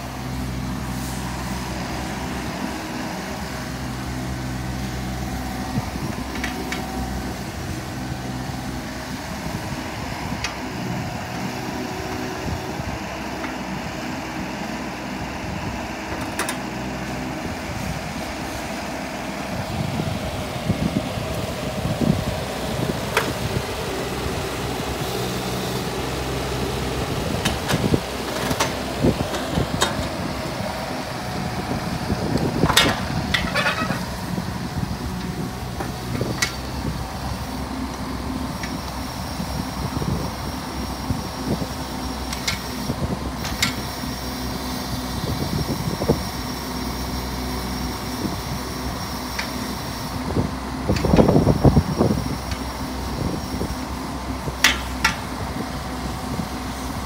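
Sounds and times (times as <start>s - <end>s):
excavator diesel engine and hydraulics: 0.0s - 57.0s.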